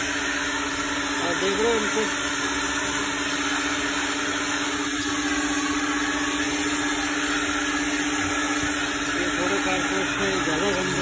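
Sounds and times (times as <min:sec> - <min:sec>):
vacuum suction on carpet mat: 0:00.0 - 0:11.0.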